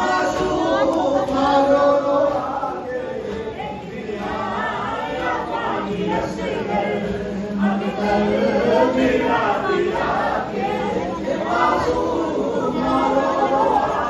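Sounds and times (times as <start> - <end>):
men chanting together: 0.0 - 14.0.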